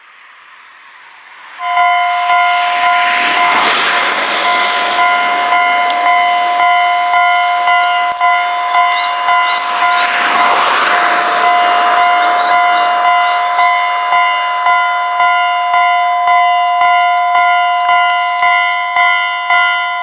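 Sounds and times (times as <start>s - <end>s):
level-crossing warning bell: 1.5s - 20.0s.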